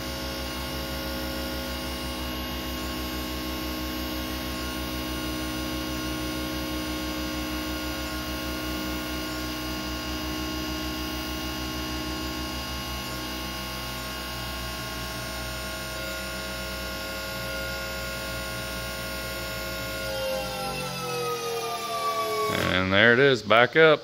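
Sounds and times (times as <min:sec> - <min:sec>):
hydraulic pump motor humming: 0:01.6 - 0:23.0.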